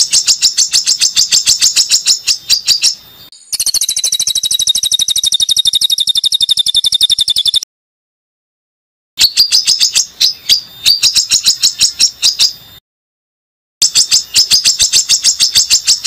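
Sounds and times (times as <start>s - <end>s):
songbird singing rapid sharp notes: 0.0s - 7.7s, 9.2s - 12.8s, 13.8s - 16.0s.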